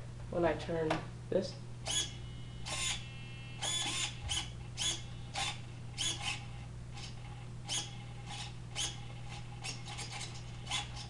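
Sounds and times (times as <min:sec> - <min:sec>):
steering servo whirring: 0:01.8 - 0:11.0.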